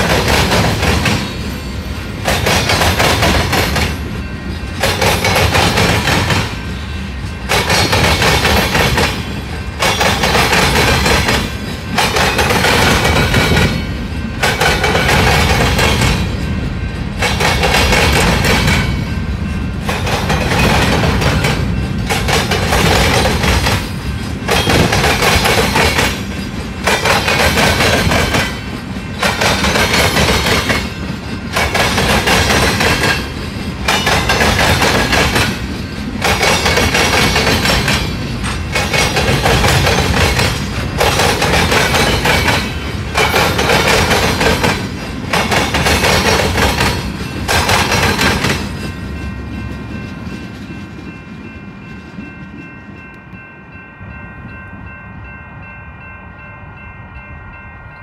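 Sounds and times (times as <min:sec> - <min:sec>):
train wheels clattering on rails: 0:00.0 - 0:53.8.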